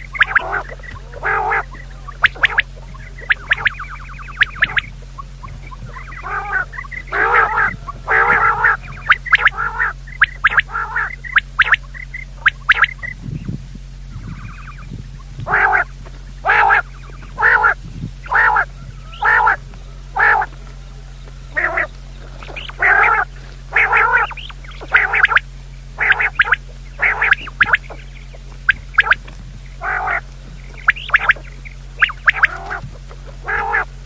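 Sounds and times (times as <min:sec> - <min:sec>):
bird making harsh nasal calls: 0:00.0 - 0:34.0.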